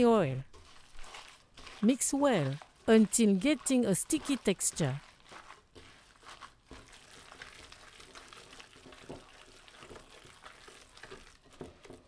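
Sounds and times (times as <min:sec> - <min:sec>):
wet squishing of kneaded meat: 0:00.0 - 0:12.0.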